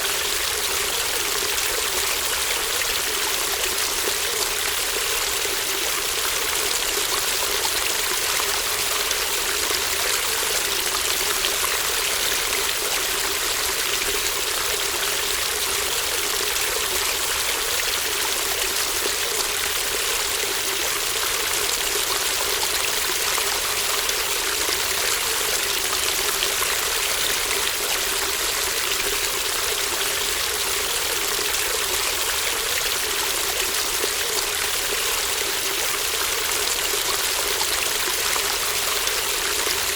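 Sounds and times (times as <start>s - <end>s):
shallow brook babbling: 0.0s - 39.9s.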